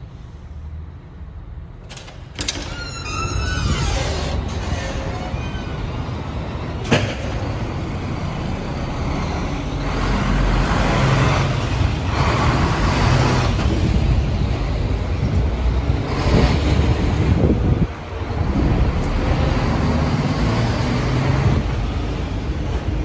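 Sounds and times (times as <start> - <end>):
low traffic rumble: 0.0 - 23.0
vehicles passing: 4.3 - 23.0.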